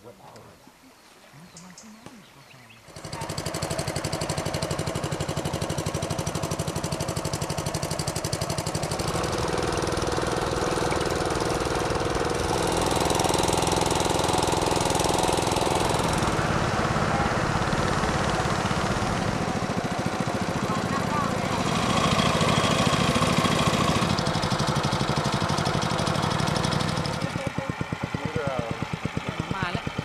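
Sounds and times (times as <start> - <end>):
boat engine chugging: 2.8 - 30.0.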